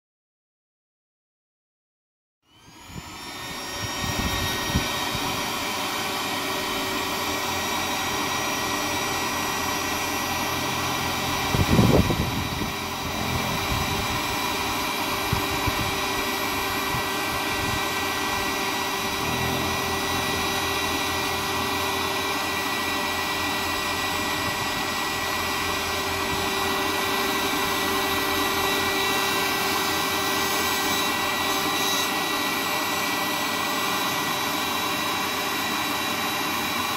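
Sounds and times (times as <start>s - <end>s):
electric fan blowing hot air: 2.6s - 36.9s.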